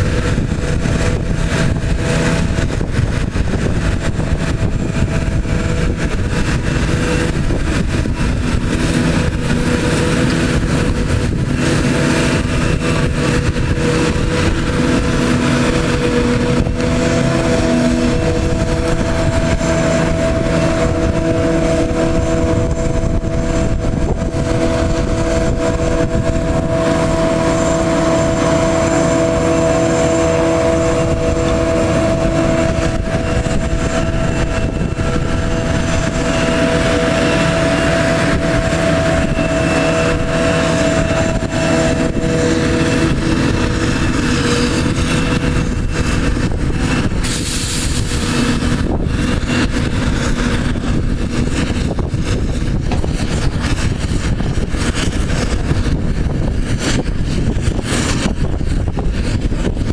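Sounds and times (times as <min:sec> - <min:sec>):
constant machine whine: 0:00.0 - 0:59.9
tractor running: 0:00.0 - 0:59.9.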